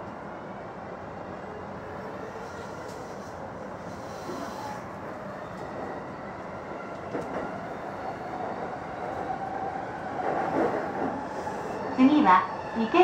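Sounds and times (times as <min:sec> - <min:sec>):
train rolling on tracks: 0:00.0 - 0:13.0.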